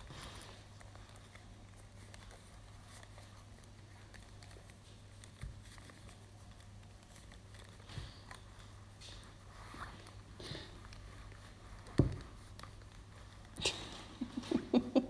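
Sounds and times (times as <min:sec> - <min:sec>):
doll handling clicks and rustles: 0:00.0 - 0:14.7.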